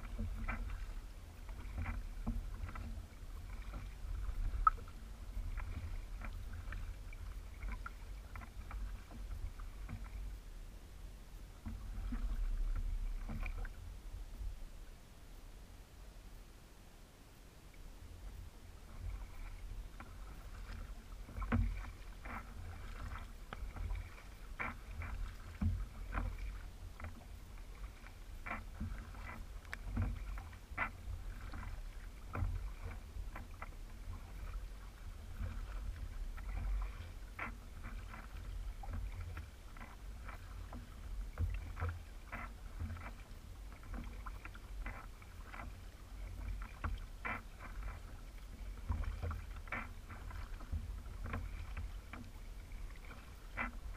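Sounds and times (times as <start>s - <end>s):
water dripping against hull: 0.0s - 10.4s, 11.6s - 13.8s, 18.2s - 53.9s
paddle splashing: 0.0s - 15.4s, 17.6s - 53.9s.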